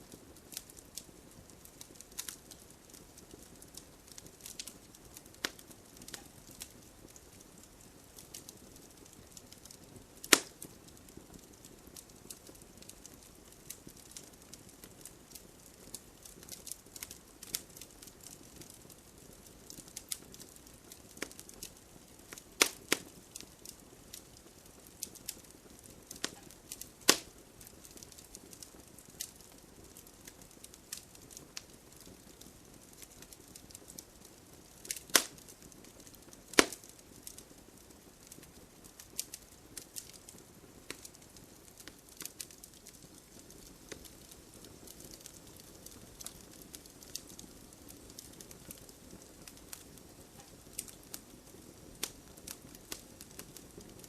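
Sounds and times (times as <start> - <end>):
campfire crackling and popping: 0.0 - 54.0
soft hiss: 0.0 - 54.0.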